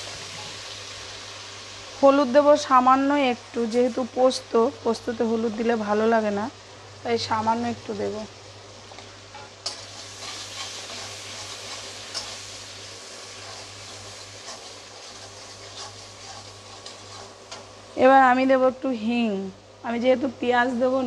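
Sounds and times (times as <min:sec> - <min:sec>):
masala sizzling in hot oil: 0:00.0 - 0:21.0.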